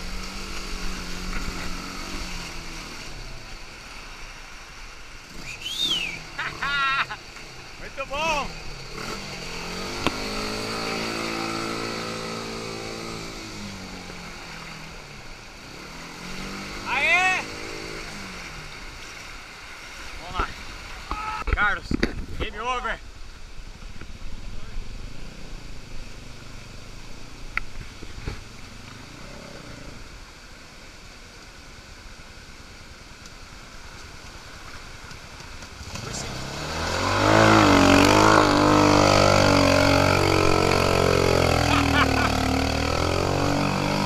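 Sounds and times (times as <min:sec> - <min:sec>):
buggy engine running: 0:00.0 - 0:19.0, 0:23.0 - 0:30.4, 0:33.9 - 0:44.0
fast-flowing water: 0:00.0 - 0:44.0.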